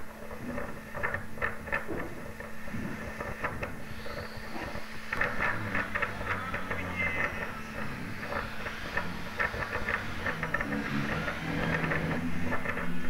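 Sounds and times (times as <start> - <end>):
rapid rattling and clattering: 0.0 - 13.0
ship rumble and hum: 0.0 - 13.0.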